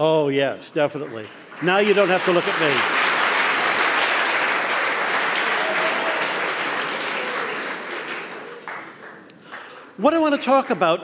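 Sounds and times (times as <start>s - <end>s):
audience applause: 0.9s - 10.0s.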